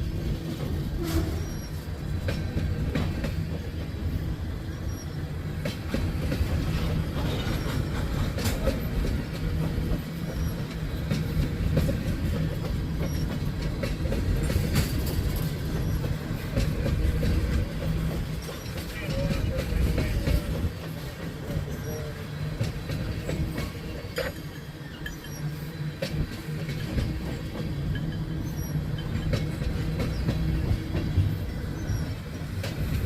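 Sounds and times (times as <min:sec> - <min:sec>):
freight train rumbling: 0:00.0 - 0:33.0
wheels clicking over rail joints: 0:00.0 - 0:33.0.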